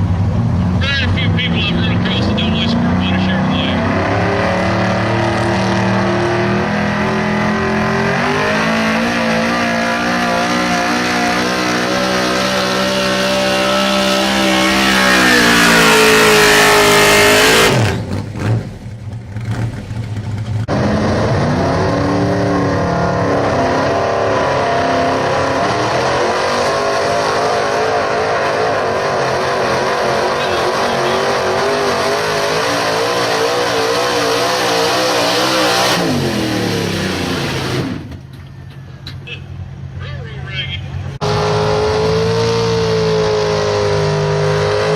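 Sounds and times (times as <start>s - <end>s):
pulling truck engine revving: 0.0s - 44.9s.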